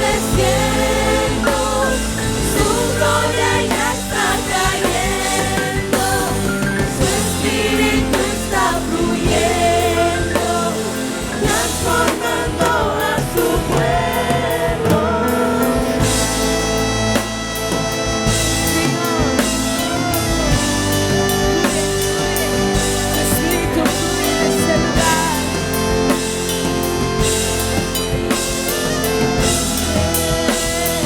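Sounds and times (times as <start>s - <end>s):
bass and drums: 0.0s - 31.0s
voices singing together: 0.0s - 31.0s
worship band playing: 0.0s - 31.0s.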